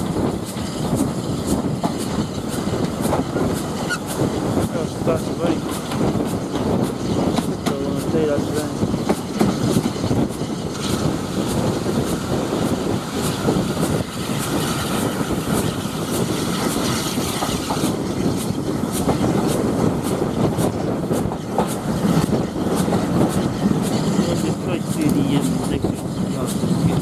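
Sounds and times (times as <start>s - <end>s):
rushing wind: 0.0s - 27.0s
train wheels rumbling on track: 0.0s - 27.0s.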